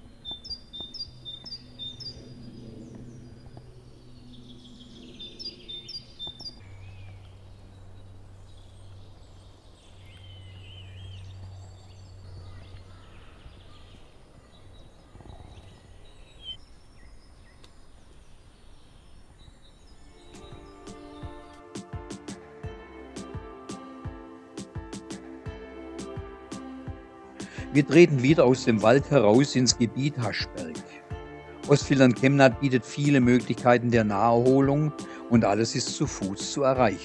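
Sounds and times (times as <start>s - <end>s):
birds chirping and trilling: 0.0s - 21.7s, 25.2s - 37.0s.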